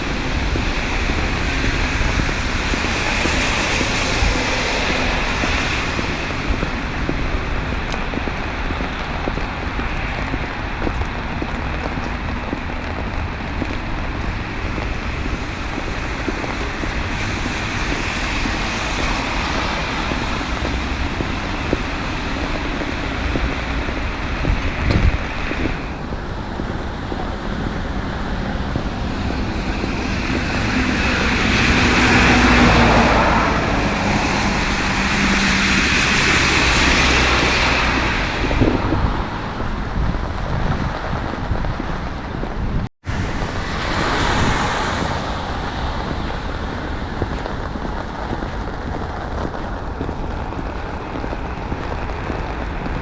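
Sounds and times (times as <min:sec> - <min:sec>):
traffic on a wet road: 0:00.0 - 0:53.0.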